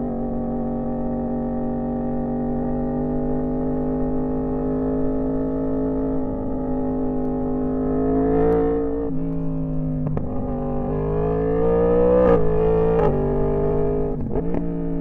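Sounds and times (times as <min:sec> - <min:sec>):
motorcycle engine running under load: 0:00.0 - 0:15.0.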